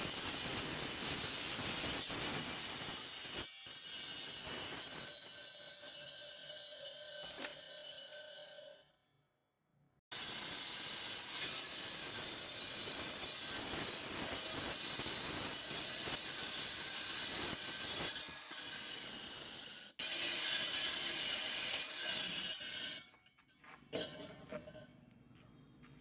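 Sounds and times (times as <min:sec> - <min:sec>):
saw grinding through concrete: 0:00.0 - 0:08.8, 0:10.1 - 0:23.2.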